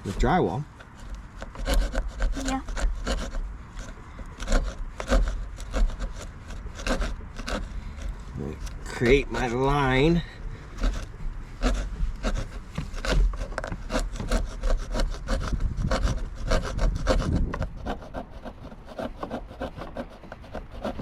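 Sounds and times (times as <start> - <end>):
hand saw sawing wood: 0.0 - 21.0.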